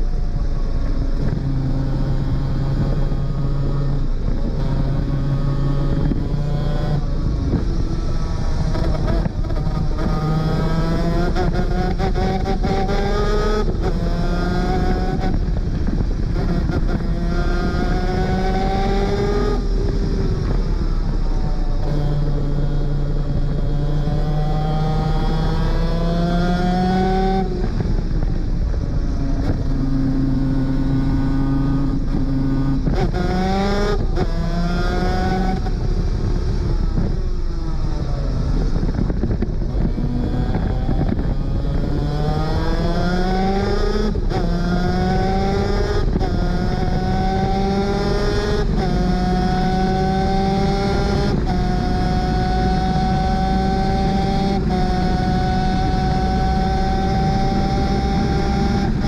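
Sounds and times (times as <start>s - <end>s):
constant rushing noise: 0.0s - 59.0s.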